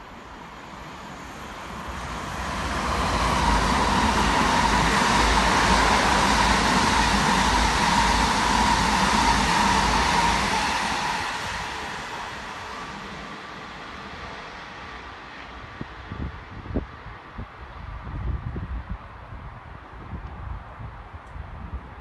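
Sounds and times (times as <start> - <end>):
electric train passing at speed: 0.0 - 22.0.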